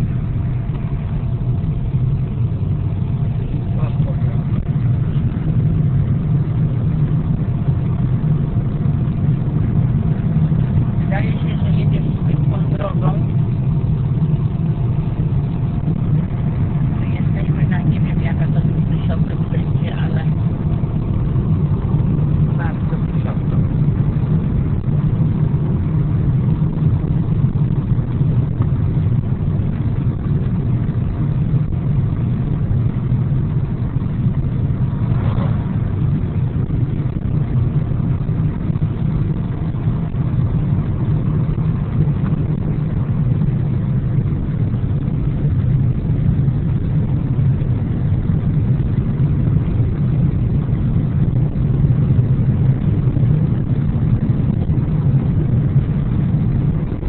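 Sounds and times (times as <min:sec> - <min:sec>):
car interior engine and tyre hum: 0:00.0 - 0:57.0.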